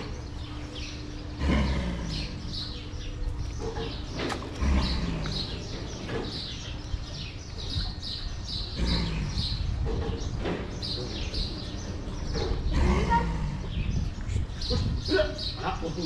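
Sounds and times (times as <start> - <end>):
deep low sound: 0.0 - 15.1
small birds chirping: 0.0 - 16.0.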